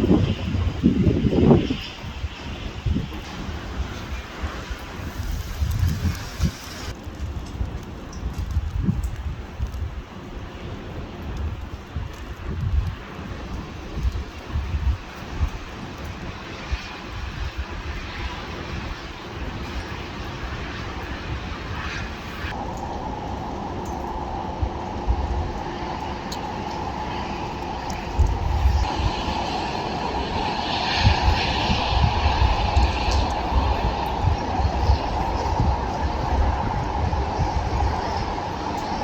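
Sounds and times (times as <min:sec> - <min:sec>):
outdoor rushing noise: 0:00.0 - 0:07.6, 0:11.4 - 0:39.0
wind gusting on microphone: 0:00.0 - 0:39.0.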